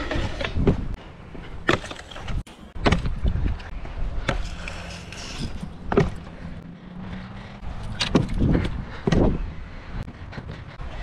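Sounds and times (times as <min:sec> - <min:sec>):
scooter wheels rumbling on concrete: 0:00.0 - 0:11.0.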